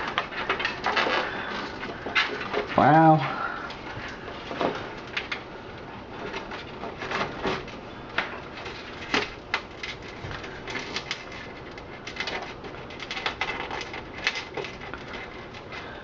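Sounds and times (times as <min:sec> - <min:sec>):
cables and plastic connectors rustling: 0:00.0 - 0:16.0.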